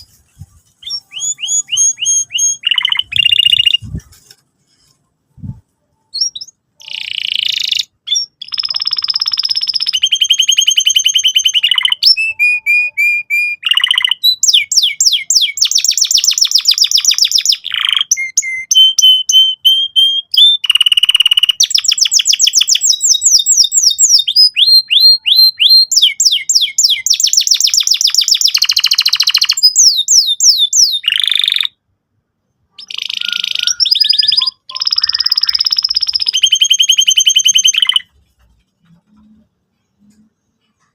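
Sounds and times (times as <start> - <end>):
canary singing trills: 0.0 - 4.0, 5.9 - 31.9, 32.5 - 38.2.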